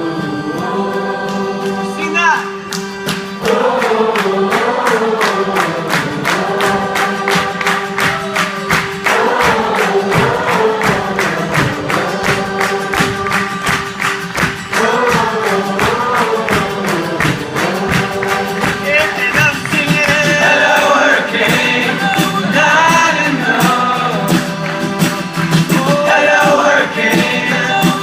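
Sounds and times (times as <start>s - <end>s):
crowd singing along: 0.0s - 28.0s
live rock band: 0.0s - 28.0s.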